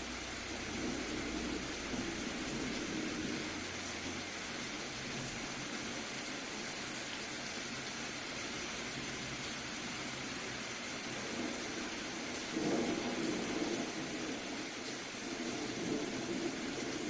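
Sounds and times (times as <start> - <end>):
soft rain falling: 0.0 - 17.0.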